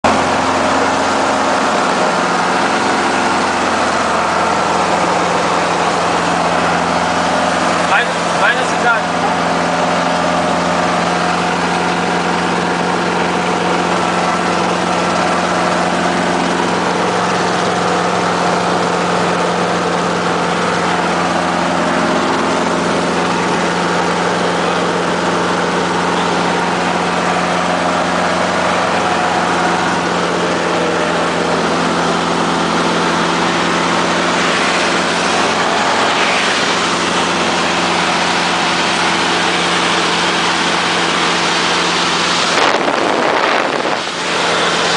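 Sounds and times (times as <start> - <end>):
helicopter engine and rotor drone: 0.1 - 44.9.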